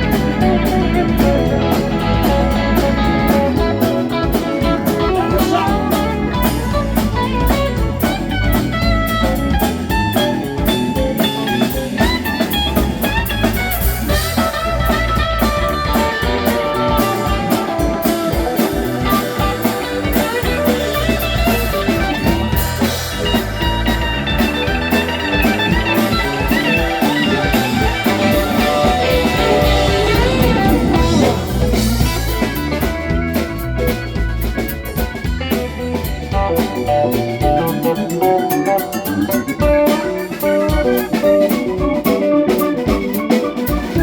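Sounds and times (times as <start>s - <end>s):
drum kit: 0.0s - 44.0s
electric guitar: 0.0s - 44.0s
live blues-rock band: 0.0s - 44.0s.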